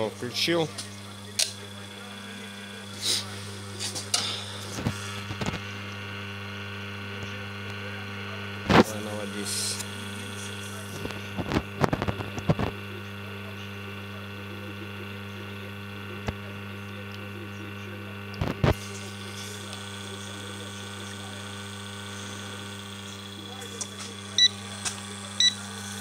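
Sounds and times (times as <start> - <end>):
water filter electrical hum: 0.0 - 26.0.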